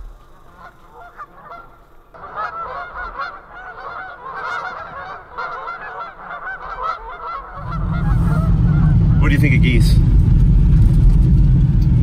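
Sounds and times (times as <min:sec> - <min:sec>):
flock of geese honking: 0:00.0 - 0:09.8.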